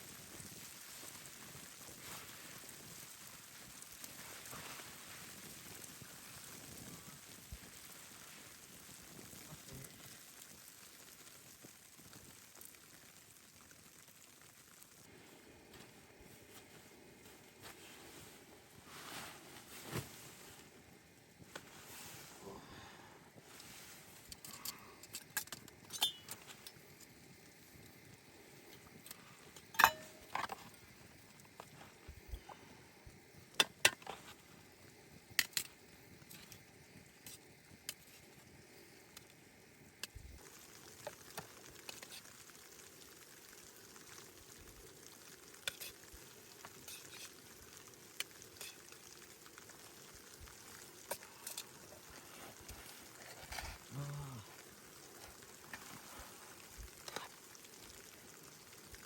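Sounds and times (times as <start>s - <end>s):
food sizzling in a pan: 0.0s - 15.2s, 15.8s - 59.0s.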